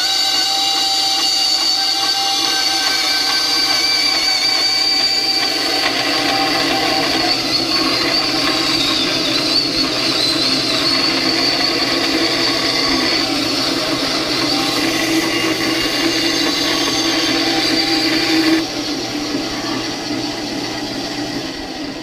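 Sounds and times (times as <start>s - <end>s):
high ringing squeal: 0.0s - 20.9s
bandsaw cutting metal: 0.0s - 21.1s.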